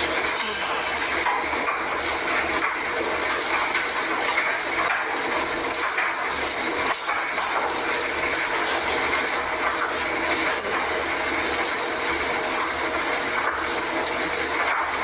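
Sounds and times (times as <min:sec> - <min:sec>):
laundry machine running: 0:00.0 - 0:15.0.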